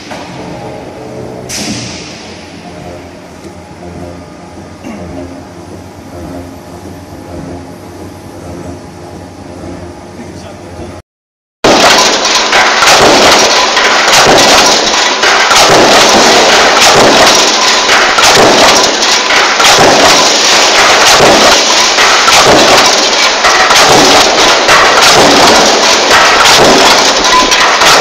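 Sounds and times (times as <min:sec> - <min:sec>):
power press stamping metal: 0:00.0 - 0:08.8, 0:11.7 - 0:28.0.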